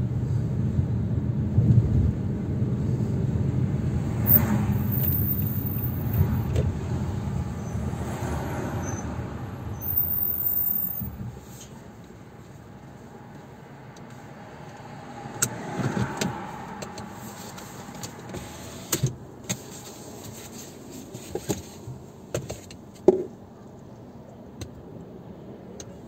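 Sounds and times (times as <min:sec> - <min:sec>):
cars passing on road: 0:00.0 - 0:26.0.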